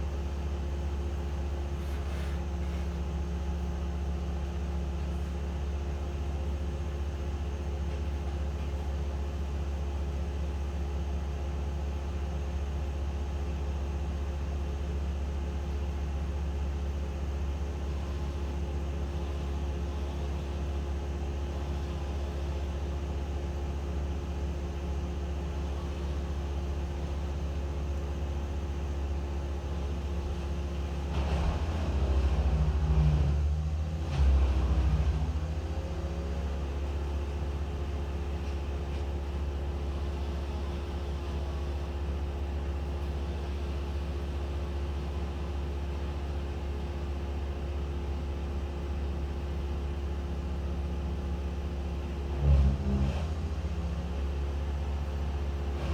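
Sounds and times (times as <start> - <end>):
engine running steadily: 0.0 - 55.9.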